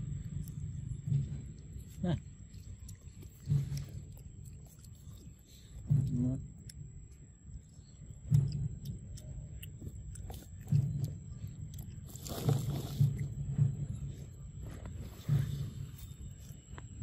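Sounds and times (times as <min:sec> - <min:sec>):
monkey chewing corn: 0:00.0 - 0:17.0.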